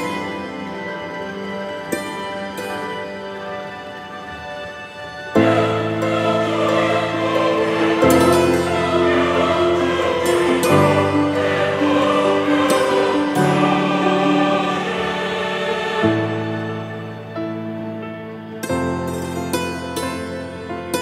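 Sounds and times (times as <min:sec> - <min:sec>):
choir-like vocals: 0:00.0 - 0:18.0
slow sustained chords: 0:00.0 - 0:21.0.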